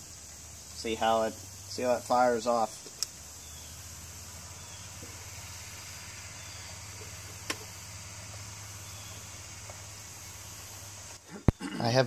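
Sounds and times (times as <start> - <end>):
even hiss: 0.0 - 12.0.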